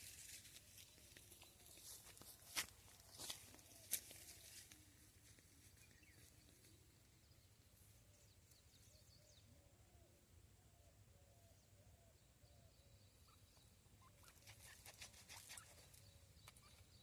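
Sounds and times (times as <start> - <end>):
faint bird calls: 1.2 - 17.0.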